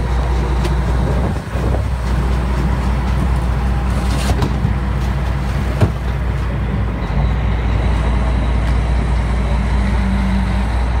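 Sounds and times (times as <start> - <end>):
boat engine humming: 0.0 - 11.0
rush of wind and water: 0.0 - 11.0.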